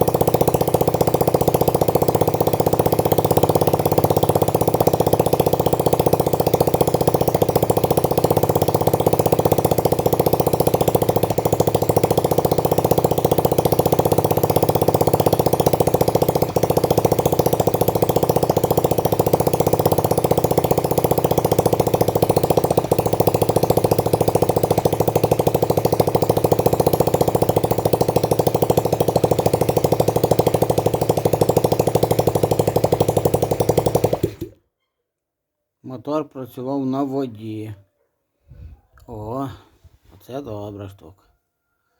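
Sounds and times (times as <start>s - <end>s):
moped engine idling: 0.0s - 34.6s.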